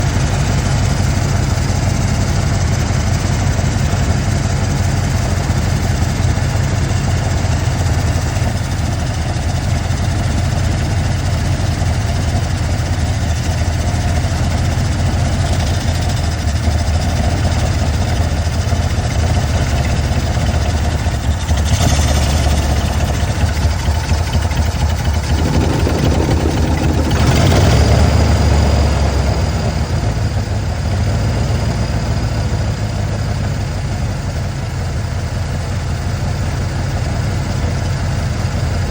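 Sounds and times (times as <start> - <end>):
misfiring engine idling: 0.0 - 38.9.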